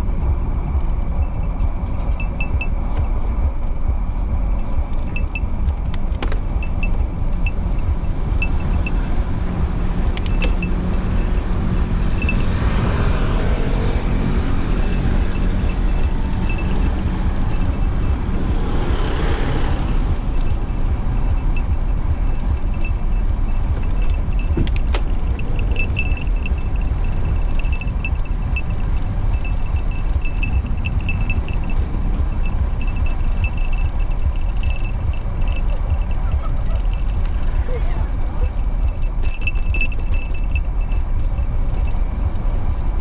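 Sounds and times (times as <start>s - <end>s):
vehicles passing: 0.0s - 43.0s
wind rumble on microphone: 0.0s - 43.0s
bicycle clicking and rattling: 4.6s - 43.0s.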